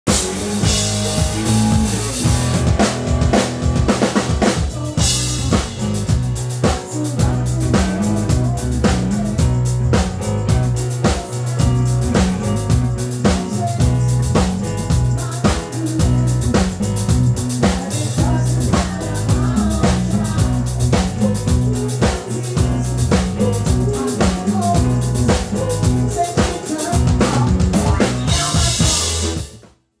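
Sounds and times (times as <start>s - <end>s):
stepping bass line: 0.0s - 29.6s
band music: 0.0s - 29.7s
drum kit beat: 0.0s - 29.7s.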